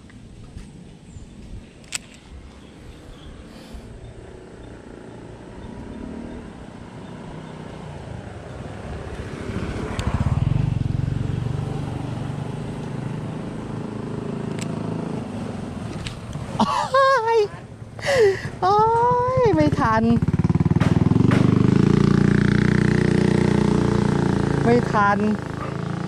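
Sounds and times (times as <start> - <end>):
motorbike passing by: 2.3 - 26.0.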